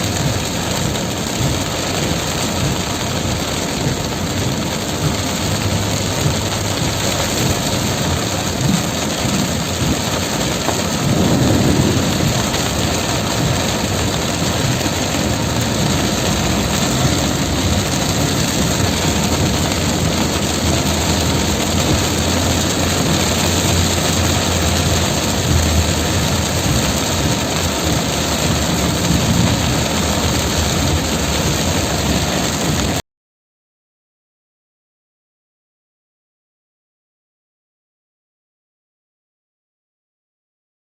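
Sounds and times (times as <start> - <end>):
heavy rain pouring: 0.0 - 33.0
vehicle engine humming: 0.0 - 33.0.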